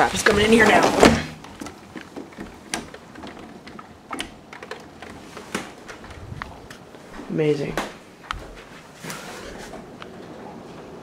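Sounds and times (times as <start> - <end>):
muffled rain hiss: 0.0 - 11.0.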